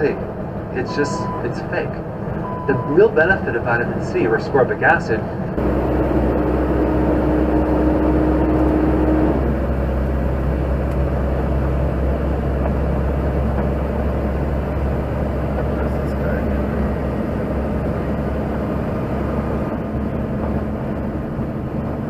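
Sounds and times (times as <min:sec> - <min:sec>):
road noise: 0:00.0 - 0:22.0
steady whine: 0:00.0 - 0:22.0
truck engine hum: 0:00.0 - 0:22.0.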